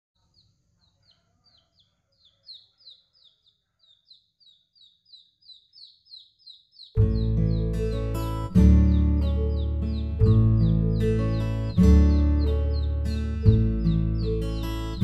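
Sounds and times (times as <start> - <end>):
baby chick peeping: 0.2 - 15.0.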